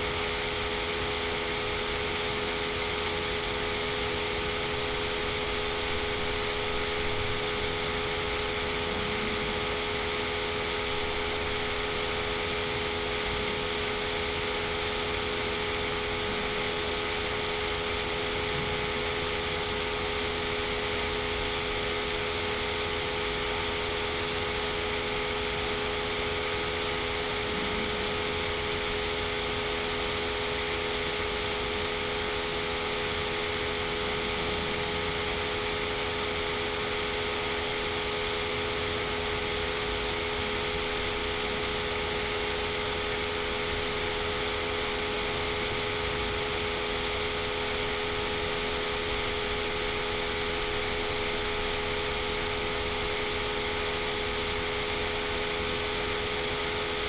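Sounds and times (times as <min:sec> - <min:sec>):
steady hum and hiss: 0:00.0 - 0:57.0.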